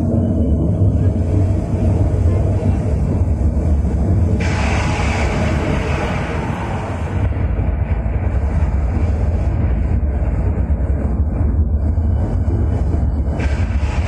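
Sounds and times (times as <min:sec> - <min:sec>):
low rumble over loudspeakers: 0:00.0 - 0:14.0.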